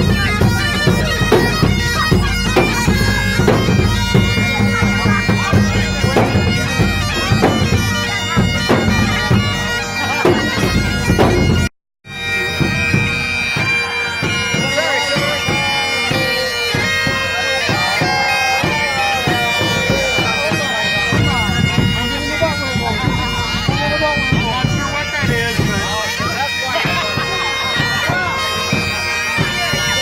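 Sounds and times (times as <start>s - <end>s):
bagpipes playing over drones: 0.0s - 30.0s
drums beating: 0.0s - 30.0s.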